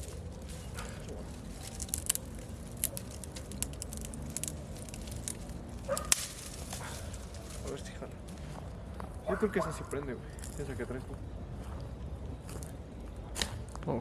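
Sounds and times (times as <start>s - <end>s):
campfire crackling: 0.0s - 13.8s.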